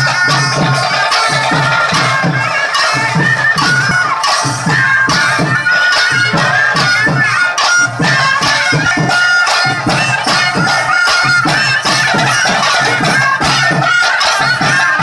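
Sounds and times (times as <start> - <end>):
reedy wind instrument melody: 0.0 - 15.0
steady drum beat: 0.0 - 15.0.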